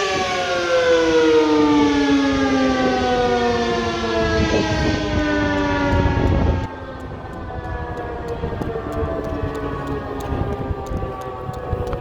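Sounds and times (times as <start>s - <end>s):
dual-tone warning siren wail: 0.0s - 12.0s.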